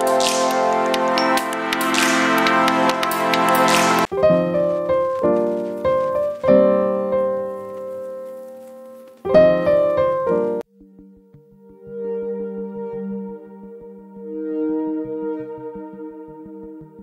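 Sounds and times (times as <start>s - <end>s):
piano-like keyboard music: 0.0s - 17.0s.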